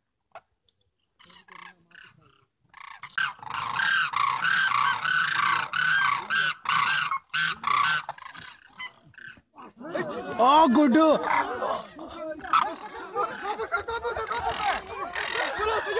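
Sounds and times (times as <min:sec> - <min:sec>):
cranes calling: 0:01.2 - 0:09.6, 0:11.1 - 0:15.9.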